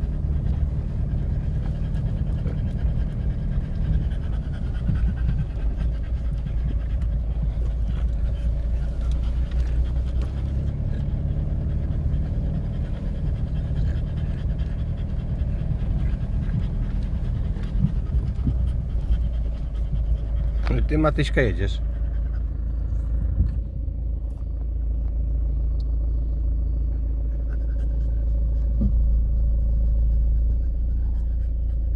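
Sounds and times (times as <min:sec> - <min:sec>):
dog panting: 0:00.0 - 0:25.2, 0:26.8 - 0:31.9.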